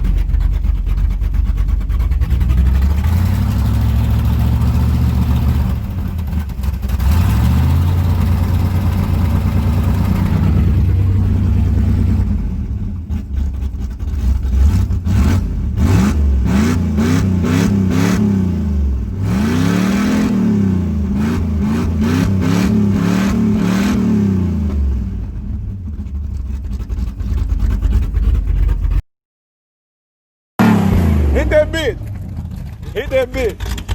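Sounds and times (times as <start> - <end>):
car engine idling and revving: 0.0 - 29.0, 30.6 - 33.9.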